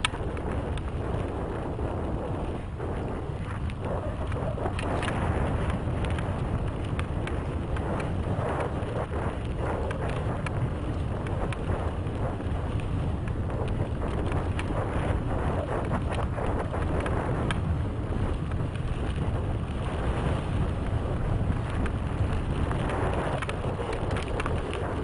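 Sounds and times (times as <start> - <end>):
bike clicking and rattling: 0.0 - 25.0
tyres running over dirt: 0.0 - 25.0
wind rushing over microphone: 0.0 - 25.0.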